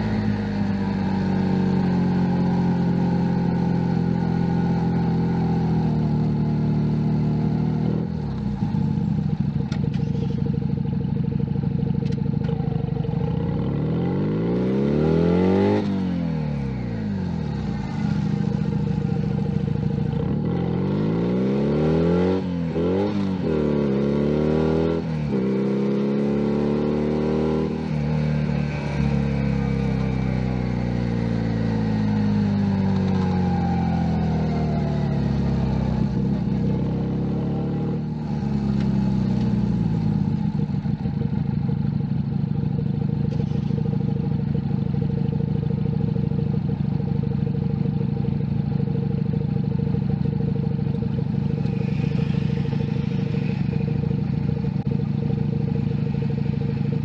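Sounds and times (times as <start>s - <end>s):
motorcycle idling: 0.0s - 15.1s, 15.9s - 57.0s
motorcycle engine revving: 0.0s - 57.0s.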